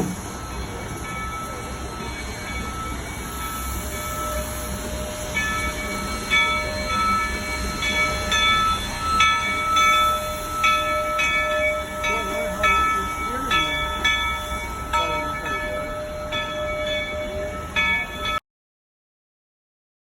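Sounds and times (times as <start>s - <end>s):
steel wheels squealing on rail: 0.0s - 18.4s
train running rumble: 0.0s - 18.4s.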